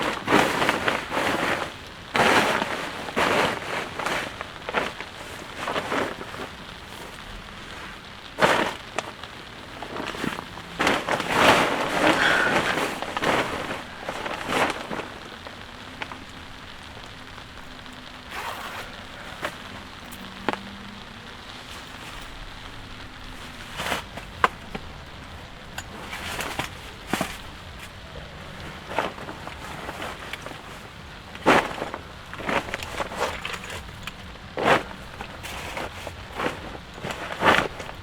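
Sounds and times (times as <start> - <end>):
light rain falling: 0.0 - 38.0
rustling bursts: 0.0 - 38.0.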